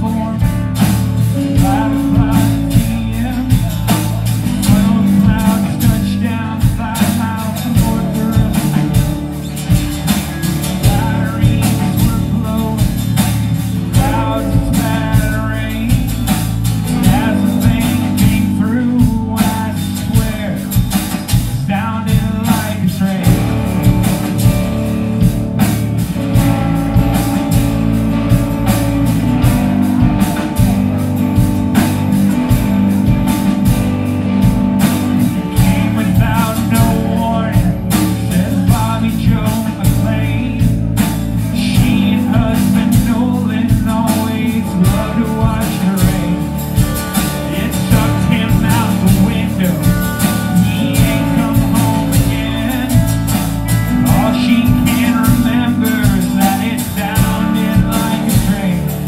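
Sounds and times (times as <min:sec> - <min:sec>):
live rock band playing: 0:00.0 - 0:59.0
man singing: 0:00.0 - 0:59.0.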